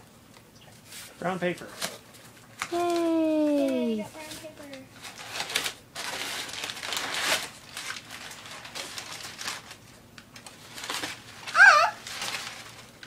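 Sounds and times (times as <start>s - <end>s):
wrapping paper crinkling and tearing: 1.0s - 13.0s.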